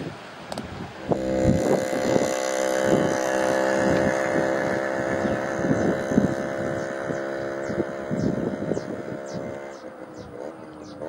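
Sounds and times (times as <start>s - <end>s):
wind thumps on microphone: 0.0s - 10.5s
engine running steadily: 0.0s - 11.0s.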